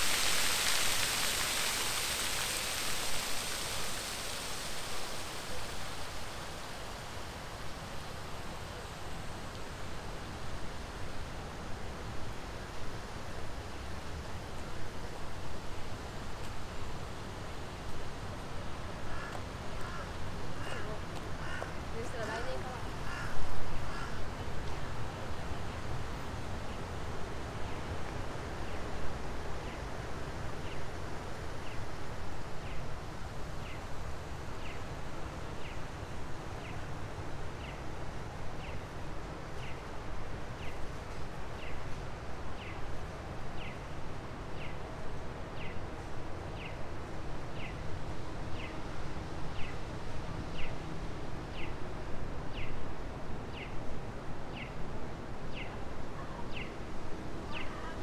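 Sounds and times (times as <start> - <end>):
city background noise: 0.0 - 58.0.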